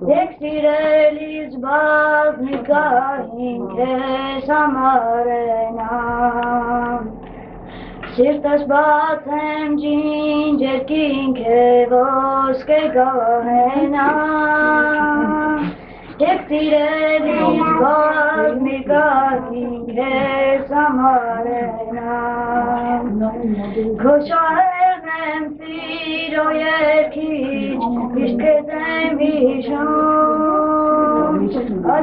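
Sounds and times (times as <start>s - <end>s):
boy singing: 0.0s - 7.1s, 8.2s - 32.0s.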